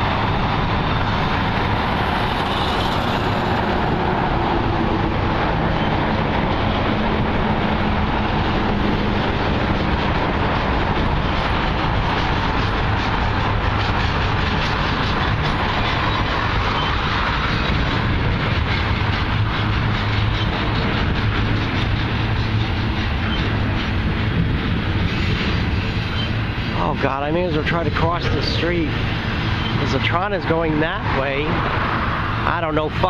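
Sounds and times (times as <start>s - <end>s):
cars clicking over rail joints: 0.0s - 33.0s
low engine hum: 0.0s - 33.0s
train wheels rumbling on rail: 0.0s - 33.0s.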